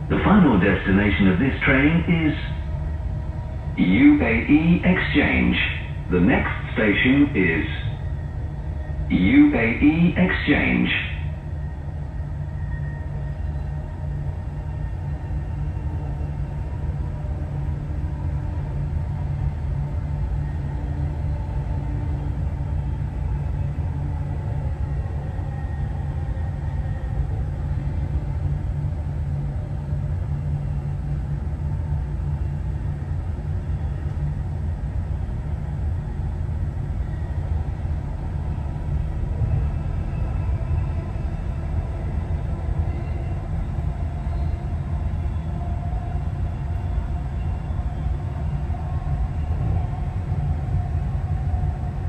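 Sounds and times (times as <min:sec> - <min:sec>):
metro train rumbling: 0:00.0 - 0:52.0.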